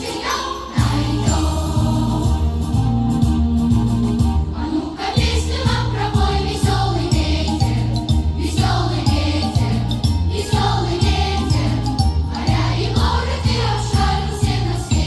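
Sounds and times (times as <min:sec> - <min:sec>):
choral song: 0:00.0 - 0:15.0
stepping bass: 0:00.8 - 0:04.6, 0:05.2 - 0:15.0.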